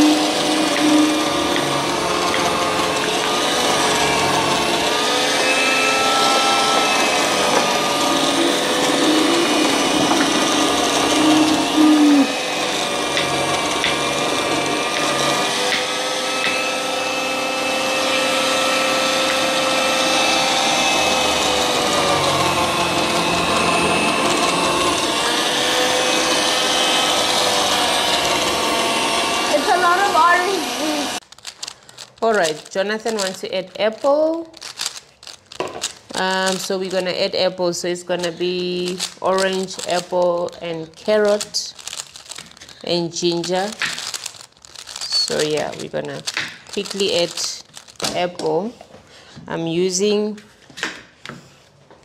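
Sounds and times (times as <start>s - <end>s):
electric citrus juicer whirring: 0.0s - 48.4s
slow juicer grinding carrots: 0.0s - 50.6s.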